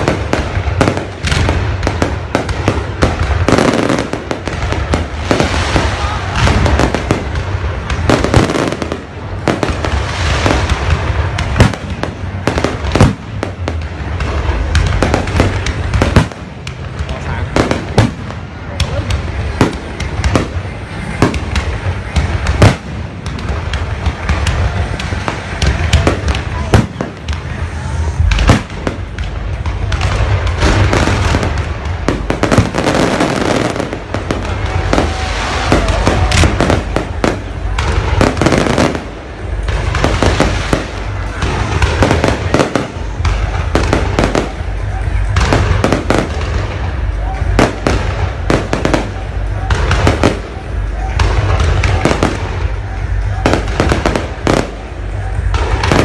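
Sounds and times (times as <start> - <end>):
continuous low rumble: 0.0 - 56.0
fireworks bangs: 0.0 - 56.0.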